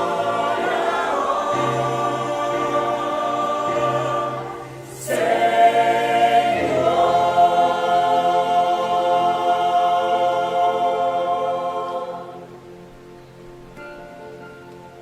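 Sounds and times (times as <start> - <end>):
choir singing a hymn: 0.0 - 13.3.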